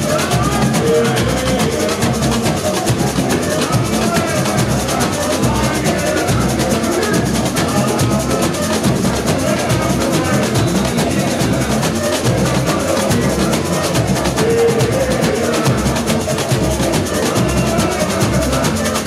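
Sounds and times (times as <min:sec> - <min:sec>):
bass drums: 0:00.0 - 0:19.0
guitar: 0:00.0 - 0:19.0
snare drums: 0:00.0 - 0:19.0
tamborins: 0:00.0 - 0:19.0.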